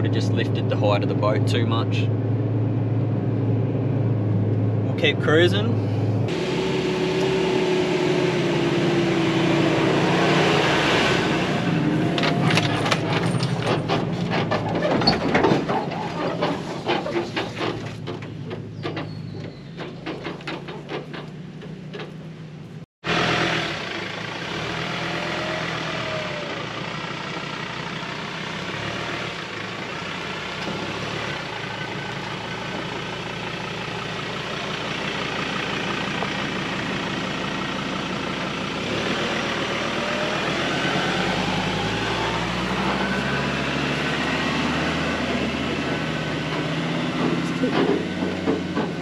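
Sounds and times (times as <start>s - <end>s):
vehicle engine running under load: 0.0s - 49.0s.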